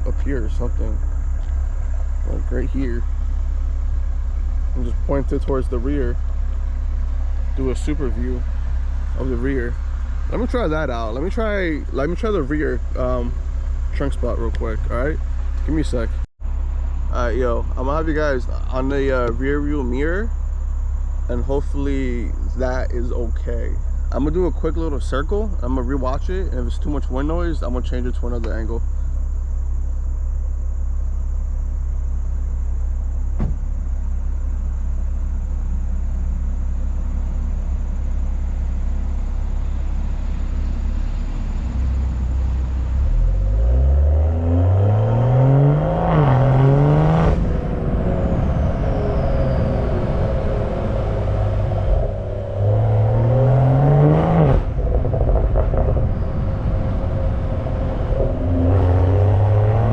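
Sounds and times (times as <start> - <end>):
car engine rumbling and revving: 0.0 - 59.9.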